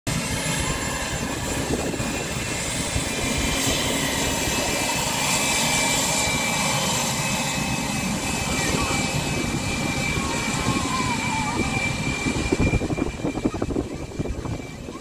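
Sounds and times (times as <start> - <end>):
jet engines whining: 0.1 - 15.0.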